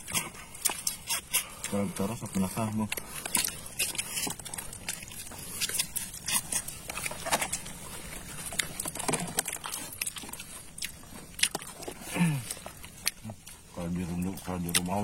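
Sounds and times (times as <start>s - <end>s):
crab shells crunching: 0.0s - 15.0s.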